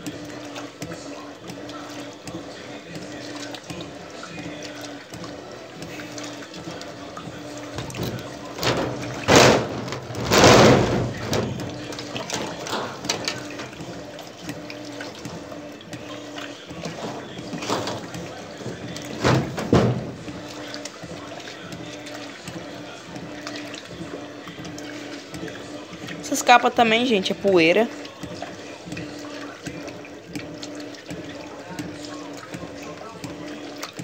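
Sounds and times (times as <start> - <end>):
washing machine motor hum: 0.0 - 34.0
water churning and sloshing: 0.0 - 34.0.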